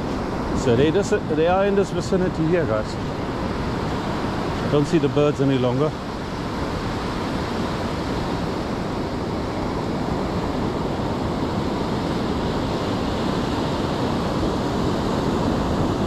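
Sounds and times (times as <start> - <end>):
ocean surf washing on shore: 0.0 - 16.0.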